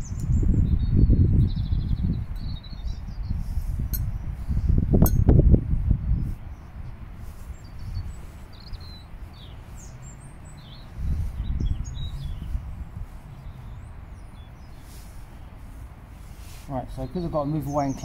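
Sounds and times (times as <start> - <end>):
small birds chirping: 0.0 - 5.3, 6.0 - 18.0.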